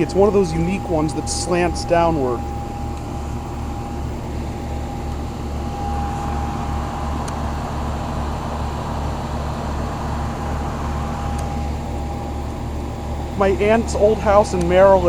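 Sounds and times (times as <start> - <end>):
constant mid-pitched tone: 0.0 - 15.0
fan rushing: 0.0 - 15.0
heat pump units humming: 0.0 - 15.0.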